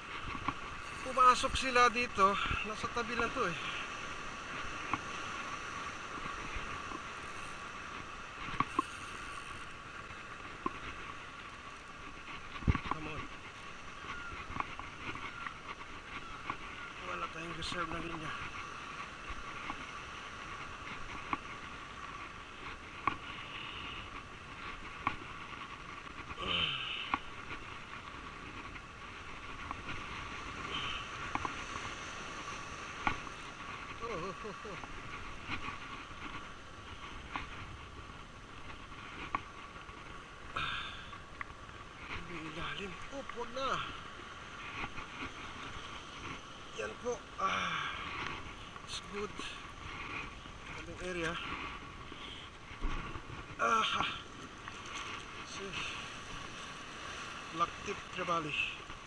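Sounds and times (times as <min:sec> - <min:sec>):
sea surf breaking over rocks: 0:00.0 - 0:15.5, 0:21.6 - 0:59.0.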